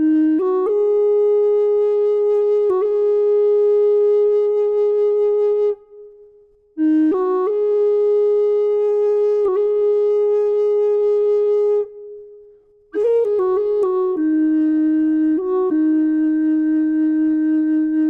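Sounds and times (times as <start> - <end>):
flute playing long held notes: 0.0 - 6.2, 6.8 - 18.0.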